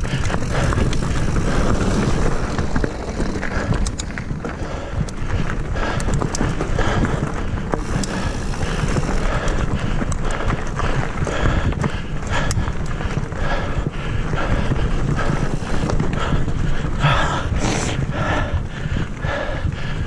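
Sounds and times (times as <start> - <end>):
bike rattling clicks: 0.0 - 20.0
bike tyre noise: 0.0 - 20.0
wind rumble on microphone: 0.0 - 20.0.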